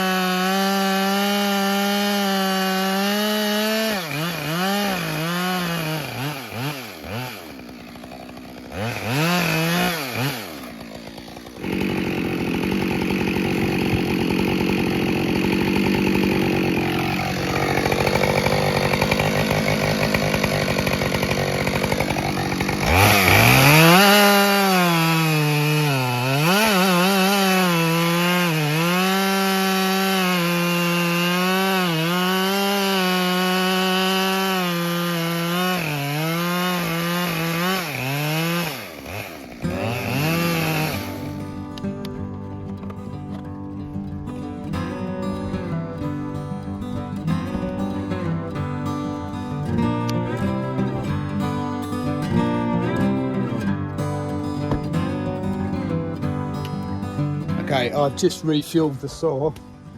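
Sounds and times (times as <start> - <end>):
chainsaw revving: 0.0 - 42.0, 49.5 - 59.5
chainsaw cutting log: 0.0 - 43.4, 46.9 - 59.9.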